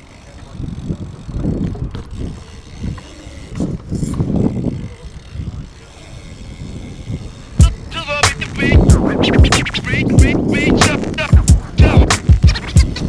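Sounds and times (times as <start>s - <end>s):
bike tyre rumble on concrete: 0.0s - 13.0s
wind buffeting microphone: 0.3s - 13.0s.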